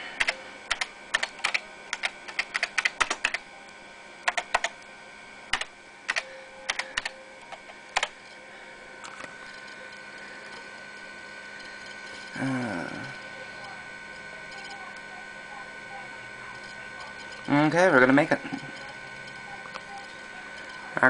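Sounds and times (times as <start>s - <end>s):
computer disk clicking: 0.0s - 4.9s, 5.5s - 8.4s, 9.0s - 21.0s
computer humming: 0.0s - 21.0s.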